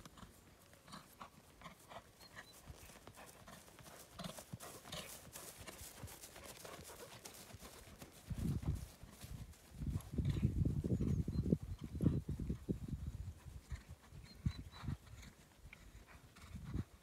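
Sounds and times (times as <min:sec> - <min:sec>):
horse hoofbeats trotting on turf: 0:00.0 - 0:17.0.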